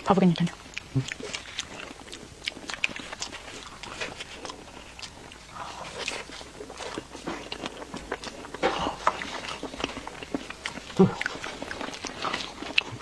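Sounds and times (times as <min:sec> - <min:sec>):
chewing with mouth clicks: 0:00.0 - 0:13.0.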